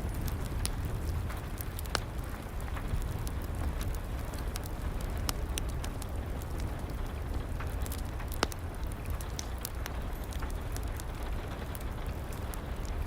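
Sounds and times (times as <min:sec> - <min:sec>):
fireplace fire crackling and popping: 0:00.0 - 0:13.0.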